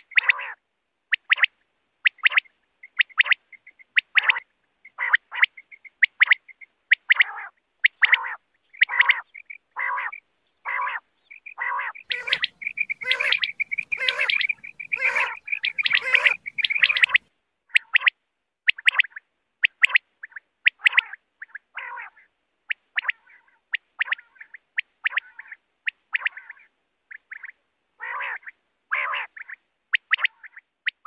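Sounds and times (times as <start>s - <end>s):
quail calling: 0.0s - 31.0s.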